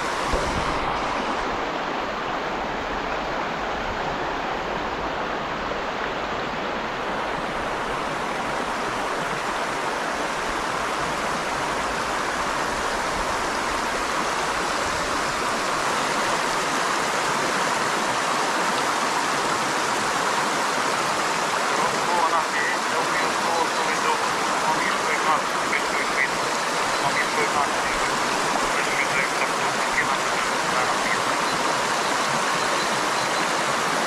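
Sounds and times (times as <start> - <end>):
river water rushing over rocks: 0.0 - 34.0.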